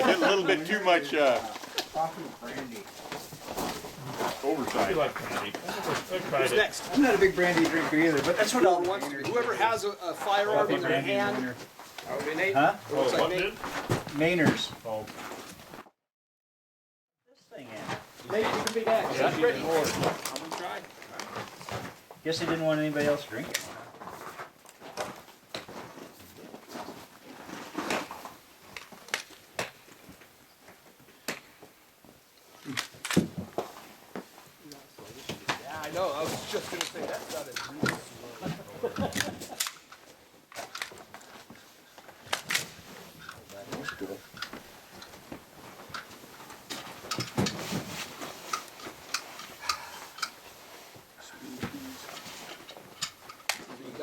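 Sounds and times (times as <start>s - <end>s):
low background noise: 0.0s - 15.8s, 17.3s - 54.0s.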